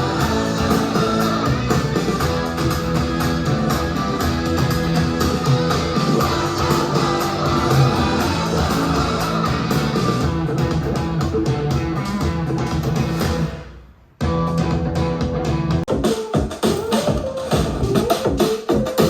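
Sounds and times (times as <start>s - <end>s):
guitar music over speaker: 0.0s - 13.5s, 14.2s - 18.4s
music with sharp beats: 0.0s - 19.0s.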